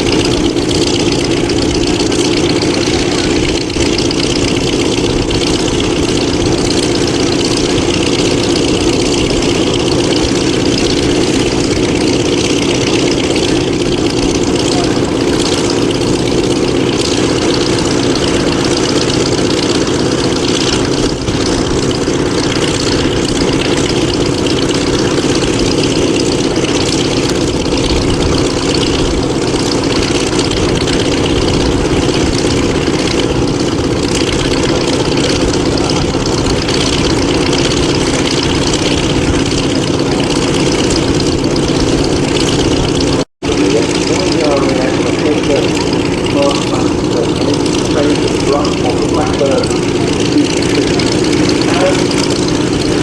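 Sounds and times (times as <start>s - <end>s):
aircraft radial engines idling: 0.0s - 53.0s.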